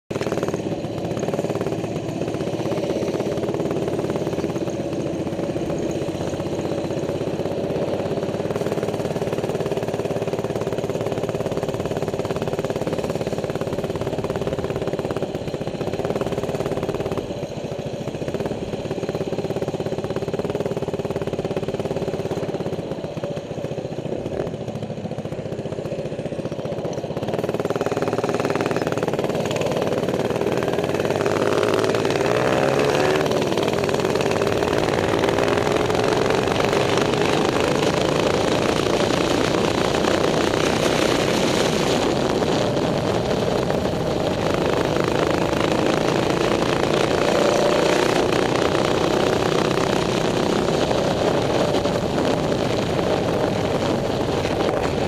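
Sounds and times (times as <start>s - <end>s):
small motorbike engine running: 0.1s - 55.0s.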